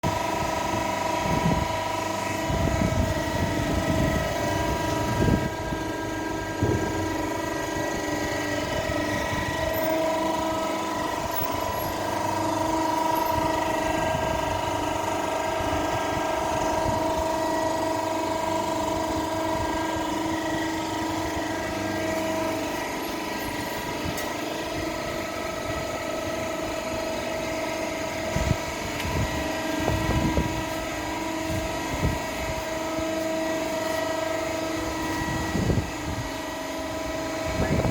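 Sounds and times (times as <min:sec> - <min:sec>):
baler machinery whine: 0:00.0 - 0:37.9.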